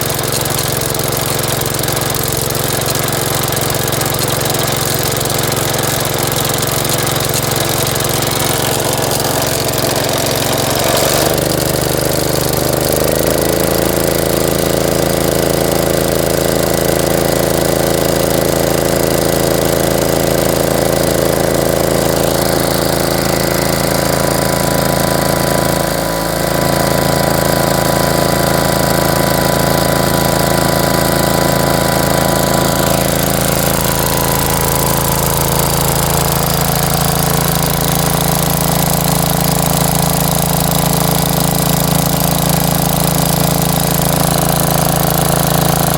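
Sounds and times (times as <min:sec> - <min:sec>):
garden tractor engine running: 0:00.0 - 0:45.9.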